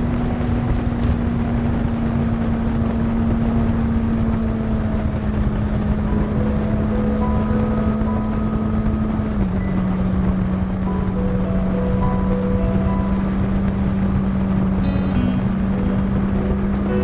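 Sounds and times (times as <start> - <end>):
motorcycle engine cruising: 0.0 - 17.0
wind and road noise: 0.0 - 17.0.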